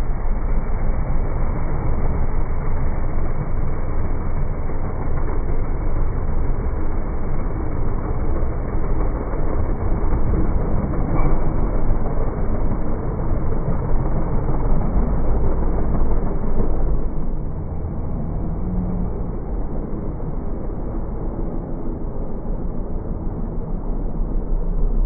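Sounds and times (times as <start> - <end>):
truck engines roaring: 0.0 - 25.0.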